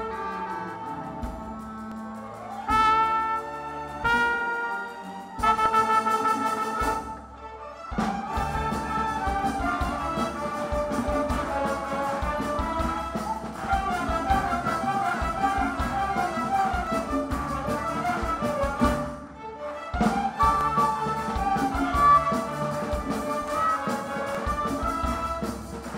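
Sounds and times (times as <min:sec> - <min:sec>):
orchestra strings and brass: 0:00.0 - 0:25.9.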